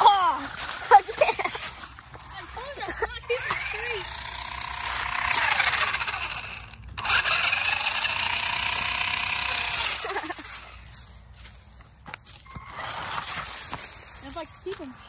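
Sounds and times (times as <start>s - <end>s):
wheels scraping over dirt: 0.0s - 15.0s
toy car motor whining: 0.4s - 10.9s, 12.6s - 14.3s.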